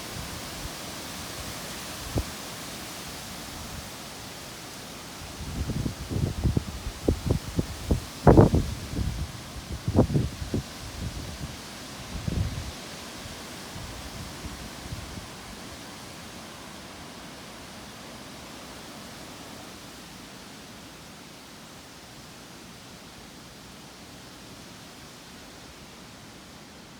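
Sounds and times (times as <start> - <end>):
wind through trees: 0.0 - 26.9.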